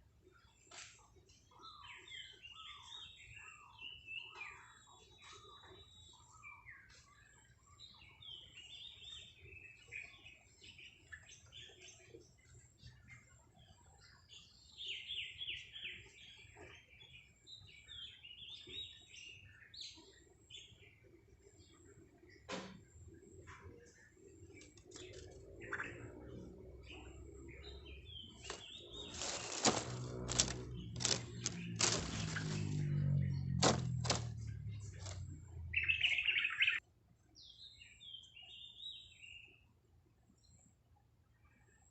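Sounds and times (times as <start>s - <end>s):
bird chirping: 0.0s - 22.5s, 23.2s - 36.8s.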